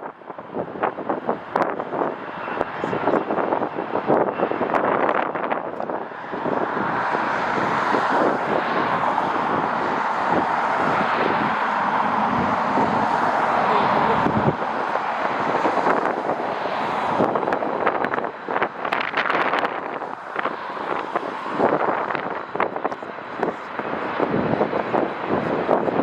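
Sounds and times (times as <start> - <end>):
jet engines roaring: 0.0 - 26.0
wind buffeting microphone: 0.0 - 26.0.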